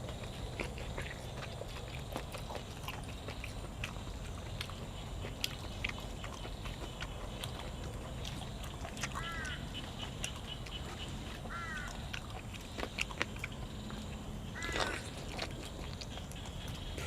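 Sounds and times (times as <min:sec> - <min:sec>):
chewing crunches: 0:00.0 - 0:17.0
low background noise: 0:00.0 - 0:17.0.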